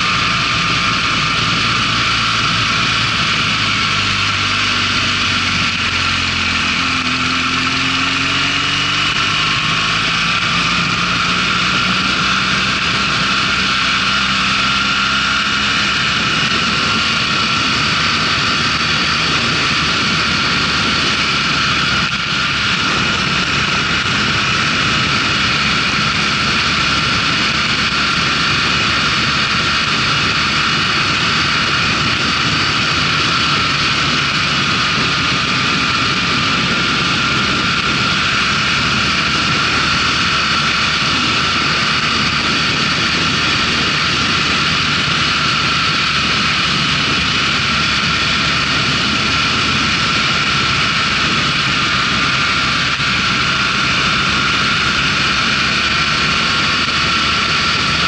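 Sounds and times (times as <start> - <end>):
motorcycle engine accelerating: 0.0 - 58.0
wind rush over microphone: 0.0 - 58.0.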